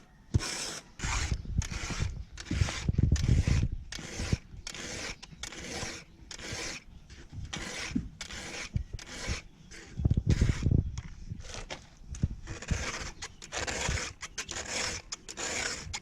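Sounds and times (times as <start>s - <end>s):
file rasping on chainsaw chain: 0.4s - 6.9s, 7.5s - 10.7s, 12.4s - 16.0s.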